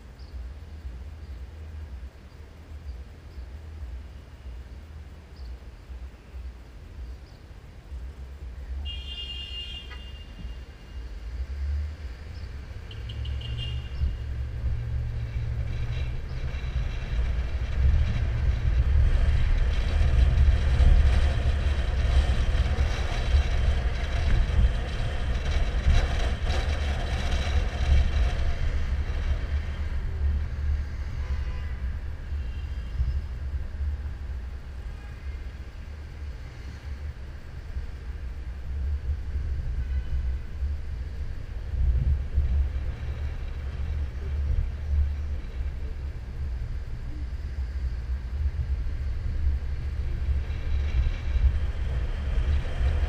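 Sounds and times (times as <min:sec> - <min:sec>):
road and wind rumble: 0:00.0 - 0:53.0.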